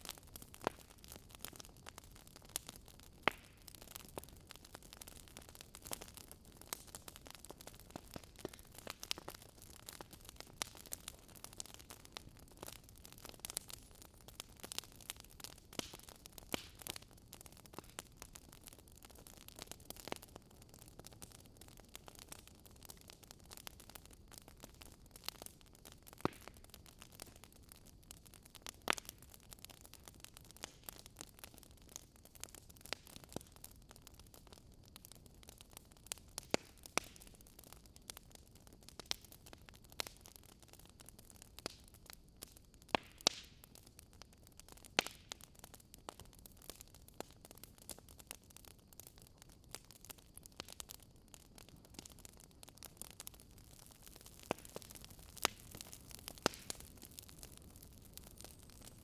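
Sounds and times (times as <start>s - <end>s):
fire crackling: 0.0s - 59.0s
fire popping: 0.0s - 59.0s.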